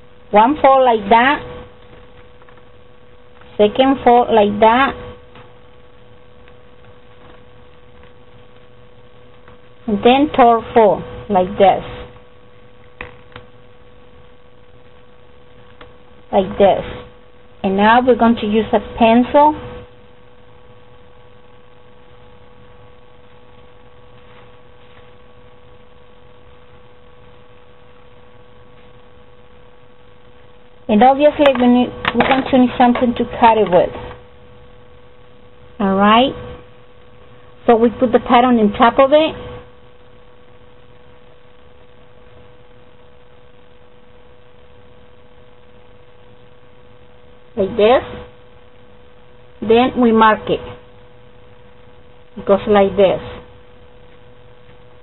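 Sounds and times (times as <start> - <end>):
steady electrical hum: 0.0 - 55.0
thin constant tone: 0.0 - 55.0.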